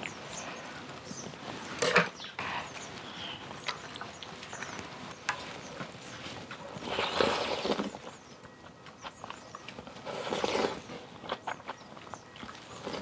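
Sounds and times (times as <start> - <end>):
chewing and mouth noises: 2.4 - 13.0.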